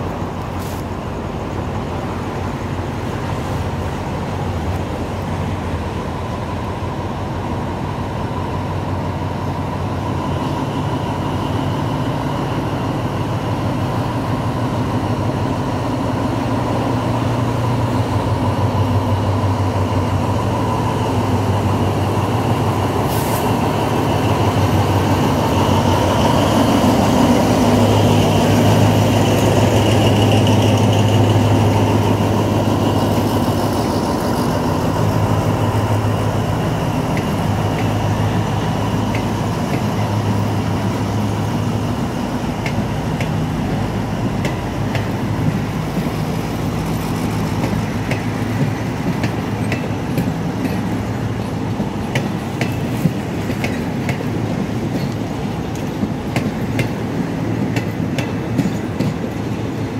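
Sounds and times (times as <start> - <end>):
locomotive engine drone: 0.0 - 59.9.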